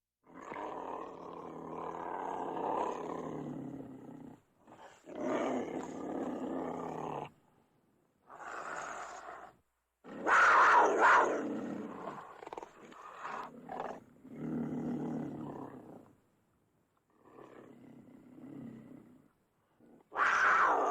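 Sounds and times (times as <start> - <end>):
cougar snarling and roaring: 0.2 - 7.4, 8.3 - 16.2, 17.1 - 20.9.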